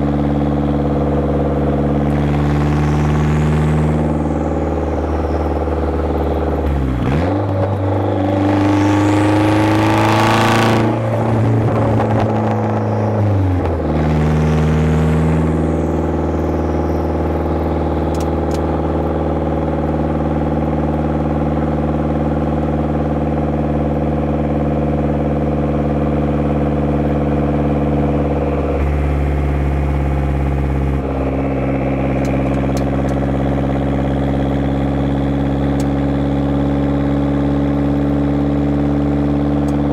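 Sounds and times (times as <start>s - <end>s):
car engine through exhaust: 0.0s - 39.9s.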